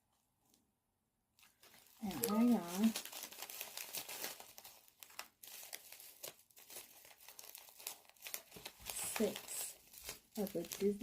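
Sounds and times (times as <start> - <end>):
plastic packaging crinkling: 1.4 - 11.0.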